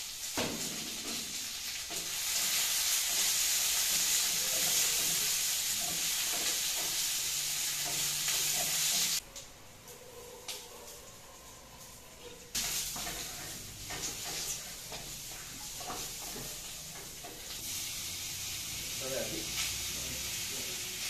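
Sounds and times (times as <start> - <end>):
vegetables sizzling in a wok: 0.0 - 9.2, 11.7 - 21.0.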